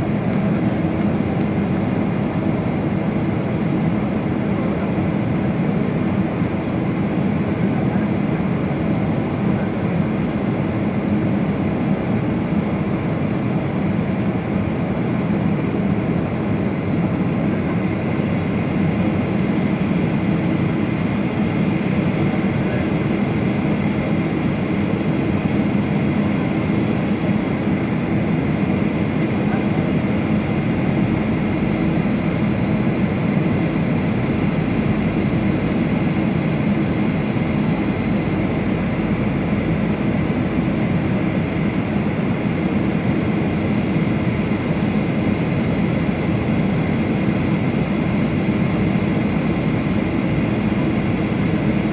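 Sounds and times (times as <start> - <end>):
jet engines droning: 0.0 - 51.9.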